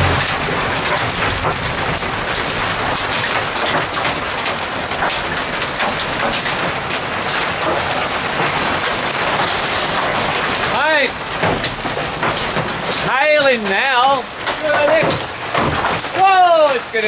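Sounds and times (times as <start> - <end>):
hailstones ticking: 0.0 - 17.0
heavy rain hiss: 0.0 - 17.0.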